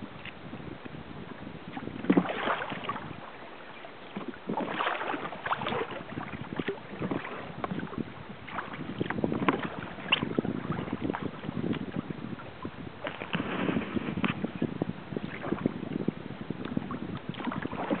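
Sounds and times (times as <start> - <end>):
water splashing against hull: 0.0 - 18.0.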